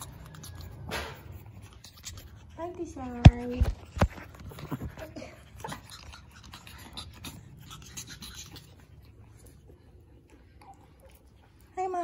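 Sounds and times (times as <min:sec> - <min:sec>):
paws scratching on wooden floor: 0:00.0 - 0:12.0.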